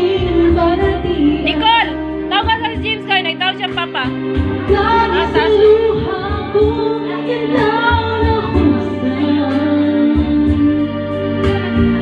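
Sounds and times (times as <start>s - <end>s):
backing music: 0.0s - 12.0s.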